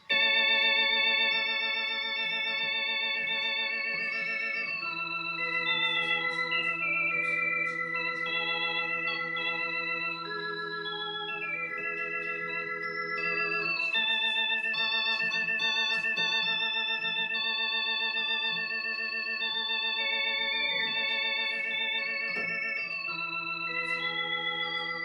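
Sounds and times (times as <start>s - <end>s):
organ playing chords with vibrato: 0.0s - 25.0s.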